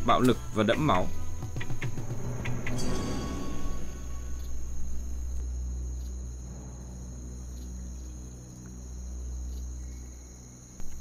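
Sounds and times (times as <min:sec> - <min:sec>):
high-pitched insect chirring: 0:00.0 - 0:11.0
low steady drone: 0:00.0 - 0:11.0.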